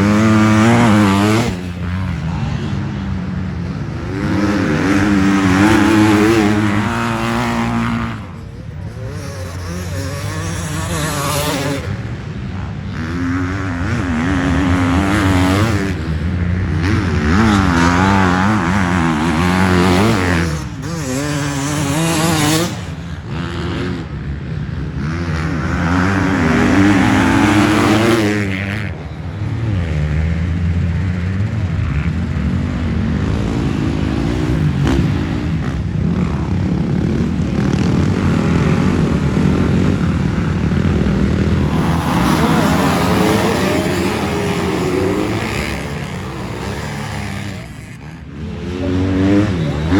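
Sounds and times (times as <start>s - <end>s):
dirt bike engines racing past: 0.0s - 49.9s.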